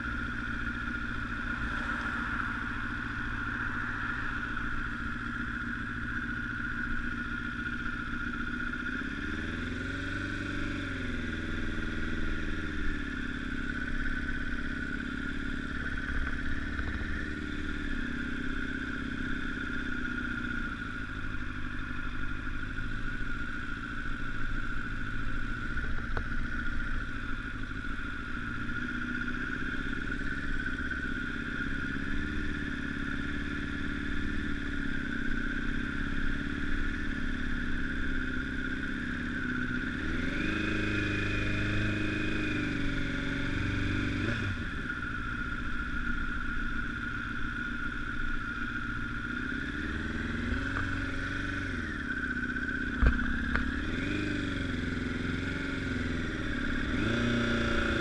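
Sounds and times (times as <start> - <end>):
motorcycle engine running: 0.0 - 58.0
steady high hum: 0.0 - 58.0.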